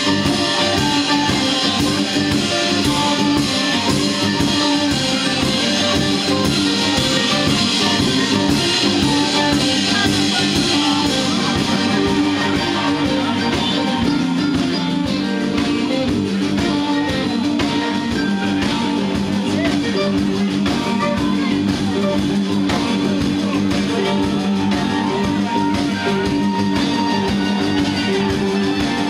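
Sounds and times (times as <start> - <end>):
drum kit: 0.0 - 29.0
electric guitar: 0.0 - 29.0
live rock band playing: 0.0 - 29.0.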